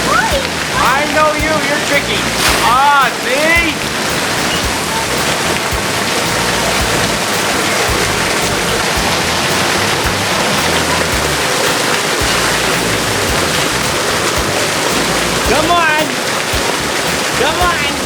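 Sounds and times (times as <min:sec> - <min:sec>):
water pouring and splashing: 0:00.0 - 0:18.0.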